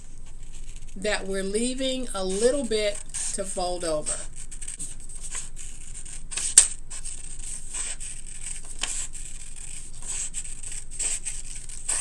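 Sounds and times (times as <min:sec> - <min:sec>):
scissors snipping paper: 0:02.2 - 0:12.0.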